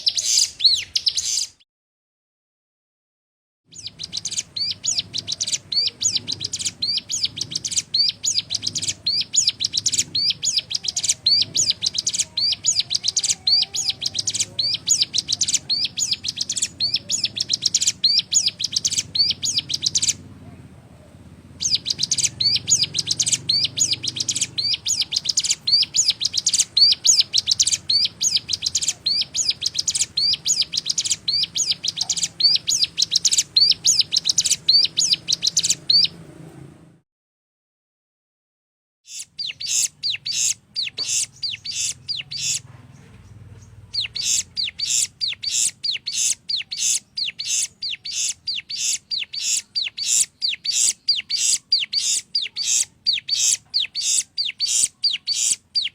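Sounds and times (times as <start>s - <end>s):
songbird sharp high chirps: 0.0s - 1.6s, 3.7s - 20.2s, 21.6s - 36.2s, 39.1s - 55.9s.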